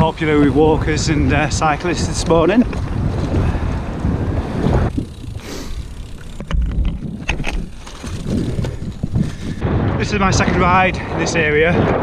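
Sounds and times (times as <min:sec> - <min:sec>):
bicycle riding rumble: 0:00.0 - 0:12.0
wind buffeting microphone: 0:00.0 - 0:12.0.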